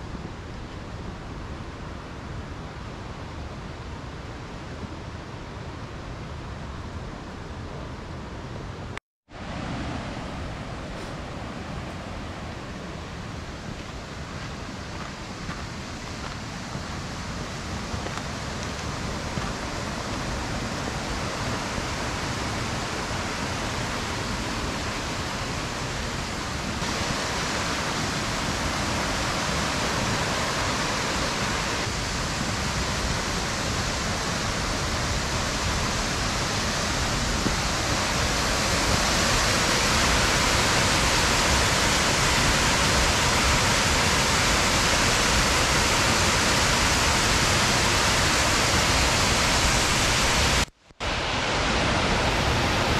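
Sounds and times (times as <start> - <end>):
waterfall rushing: 9.4 - 52.9.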